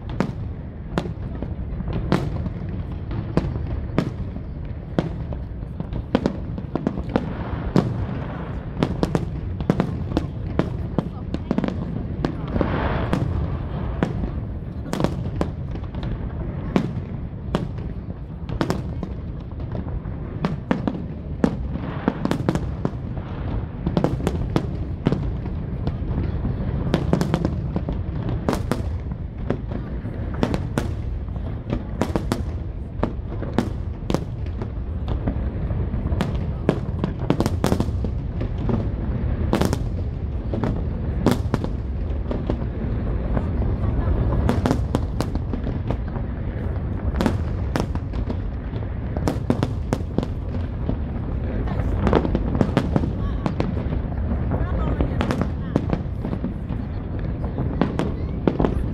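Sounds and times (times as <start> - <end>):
fireworks cracking and popping: 0.0 - 58.9
low rumble of firework booms: 0.0 - 58.9.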